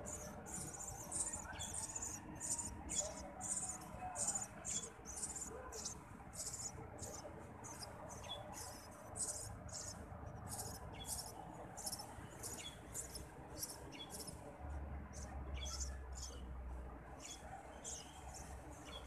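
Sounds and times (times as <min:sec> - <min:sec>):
nestlings begging calls: 0:00.0 - 0:14.4, 0:15.1 - 0:16.4, 0:17.2 - 0:19.0.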